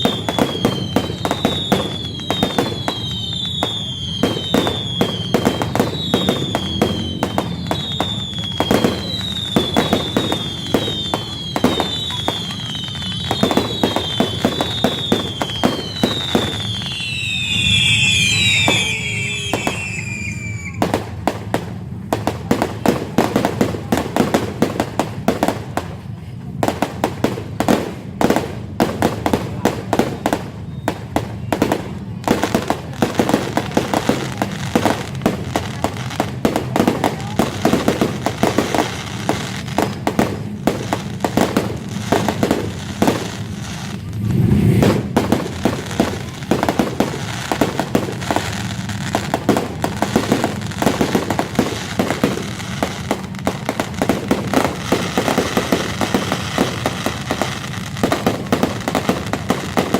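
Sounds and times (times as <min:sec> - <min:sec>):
deep firework boom: 0:00.0 - 0:25.7, 0:34.2 - 0:59.5
firework whistle: 0:00.0 - 0:26.0, 0:27.0 - 0:59.9
fireworks cracking and banging: 0:00.0 - 0:59.9.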